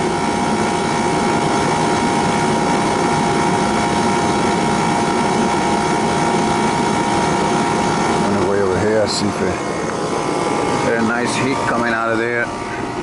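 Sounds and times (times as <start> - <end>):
air conditioning unit droning: 0.0 - 13.0.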